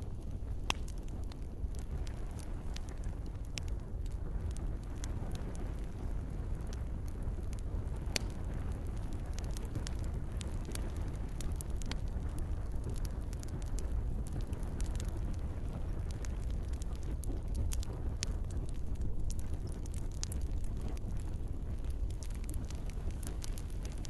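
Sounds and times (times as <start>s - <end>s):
campfire crackling: 0.0s - 24.0s
gentle rain falling: 0.0s - 24.0s.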